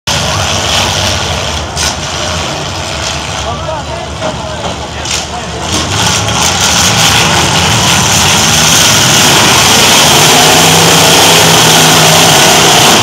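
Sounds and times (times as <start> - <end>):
truck engines revving: 0.1 - 13.0.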